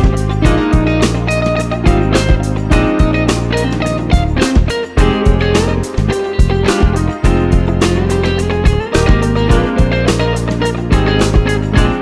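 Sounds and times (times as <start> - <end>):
guitar band music with beat: 0.0 - 12.0.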